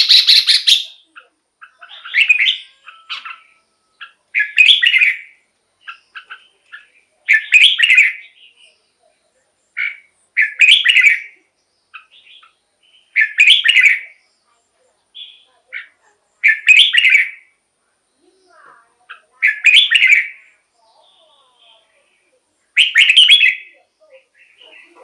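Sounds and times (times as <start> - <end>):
bulbul warbled song: 0.0 - 8.8, 9.7 - 14.3, 15.2 - 17.6, 18.2 - 21.8, 22.7 - 25.0.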